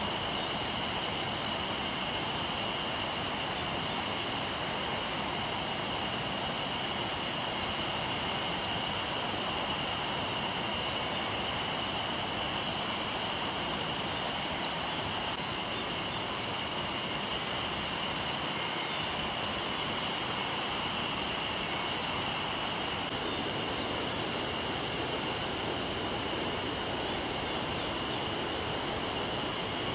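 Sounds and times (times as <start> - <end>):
high-pitched whine: 0.0 - 29.9.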